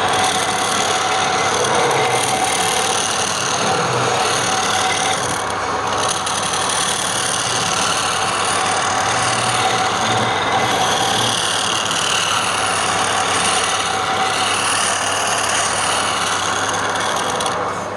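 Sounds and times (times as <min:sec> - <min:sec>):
wood lathe running: 0:00.0 - 0:17.9.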